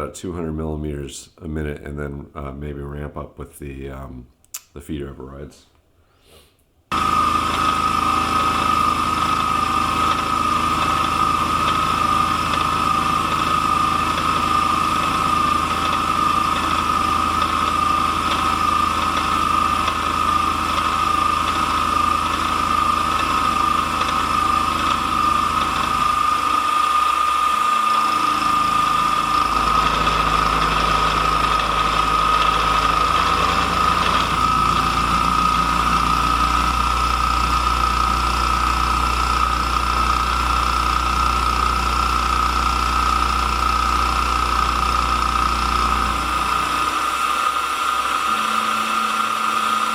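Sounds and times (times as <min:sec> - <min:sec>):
high-pitched milling whine: 0:06.9 - 0:49.9
machine rumble: 0:06.9 - 0:49.9.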